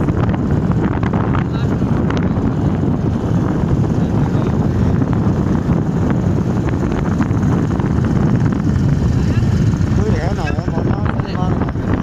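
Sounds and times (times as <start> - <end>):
motorcycles running: 0.0 - 12.0
wind buffeting microphone: 0.0 - 12.0.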